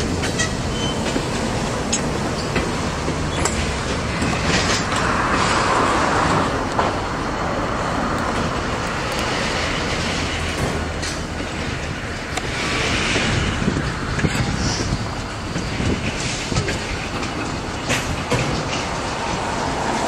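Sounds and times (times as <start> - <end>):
diesel locomotive rumble: 0.0 - 20.0
train wheels clicking over rail joints: 0.0 - 20.0.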